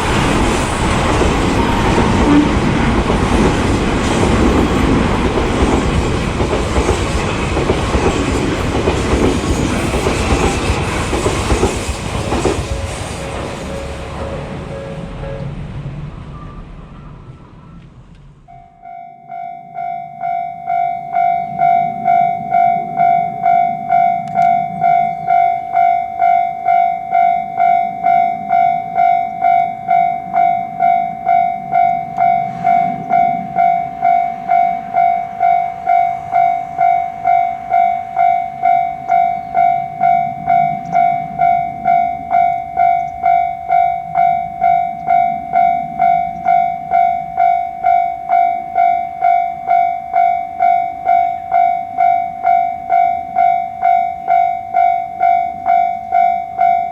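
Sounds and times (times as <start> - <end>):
level-crossing alarm ringing: 0.0 - 15.4, 18.5 - 56.9
low rumble of train: 0.0 - 56.9.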